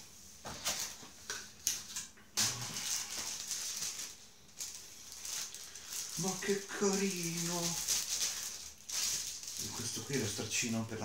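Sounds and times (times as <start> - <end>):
plastic bag crinkling: 1.7 - 10.8.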